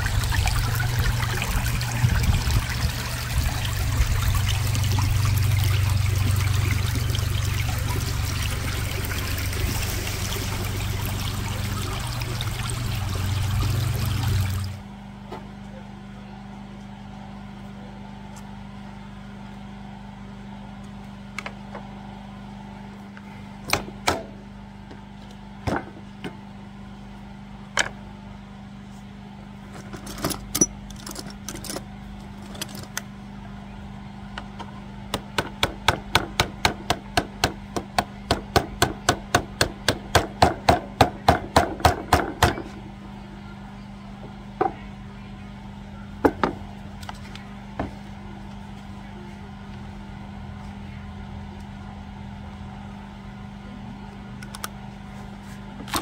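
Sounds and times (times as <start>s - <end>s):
steady engine hum: 0.0s - 20.6s, 21.4s - 56.0s.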